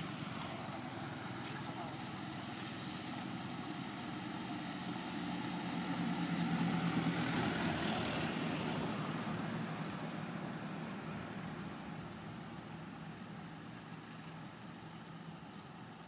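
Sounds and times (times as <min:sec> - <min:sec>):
distant engine droning: 0:00.0 - 0:16.0.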